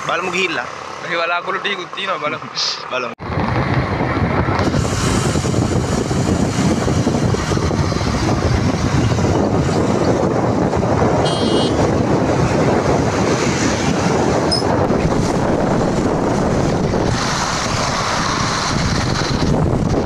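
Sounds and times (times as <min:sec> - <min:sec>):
motorcycle road noise: 0:00.0 - 0:20.0
wind rushing over microphone: 0:03.2 - 0:20.0.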